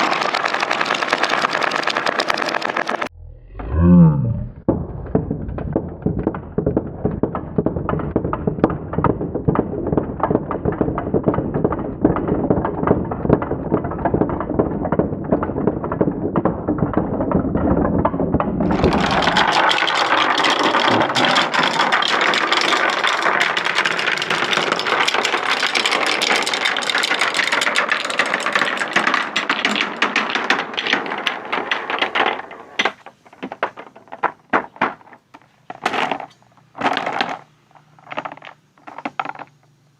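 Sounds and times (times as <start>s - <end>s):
marbles clattering down track: 0.0s - 3.1s, 4.7s - 39.7s.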